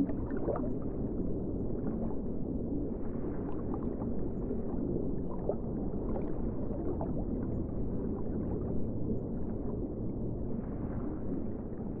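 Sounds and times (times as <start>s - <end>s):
underwater rumble and wash: 0.0s - 12.0s.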